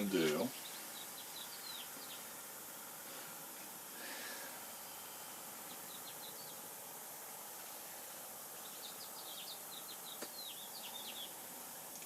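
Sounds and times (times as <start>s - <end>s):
songbird chirping: 0.0s - 3.0s, 4.9s - 12.0s
steady background hiss: 0.0s - 12.0s.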